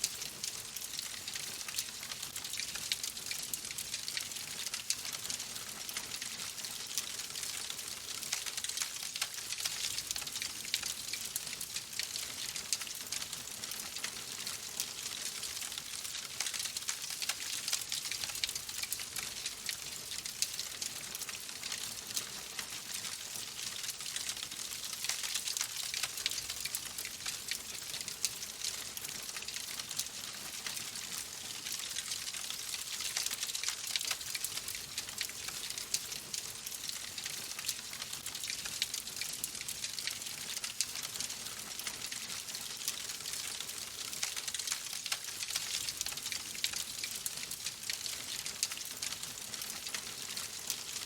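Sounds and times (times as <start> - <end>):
fireplace fire crackling: 0.0 - 51.0.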